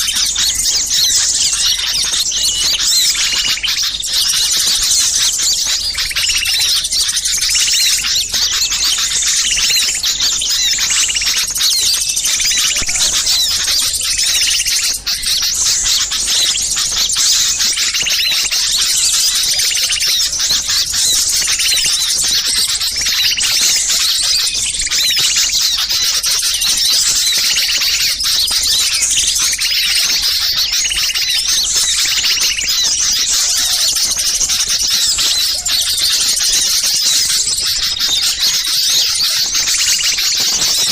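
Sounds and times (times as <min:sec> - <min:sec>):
small songbirds chirping: 0:00.0 - 0:40.9.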